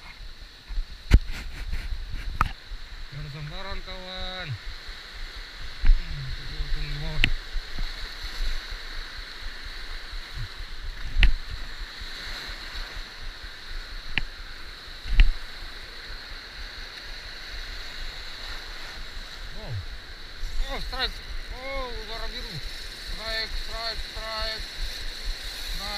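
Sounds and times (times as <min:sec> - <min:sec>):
surf rushing over shoreline: 0:00.0 - 0:25.9.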